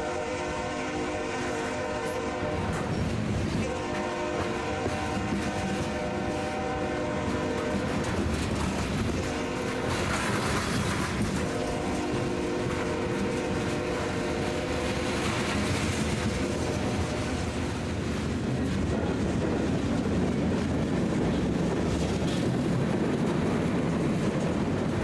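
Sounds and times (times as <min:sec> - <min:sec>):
freight train wheels on rail: 0:00.0 - 0:25.0.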